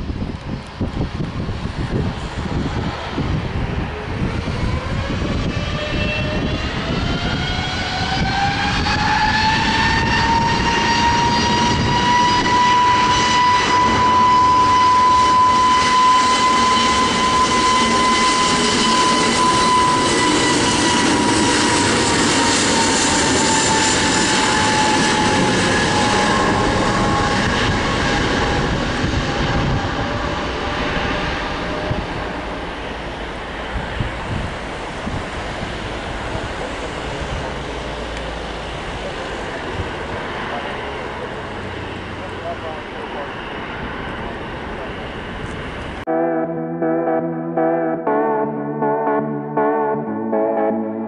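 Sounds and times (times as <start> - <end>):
jet engine roar: 0.0 - 46.1
jet engine whine: 0.0 - 46.8.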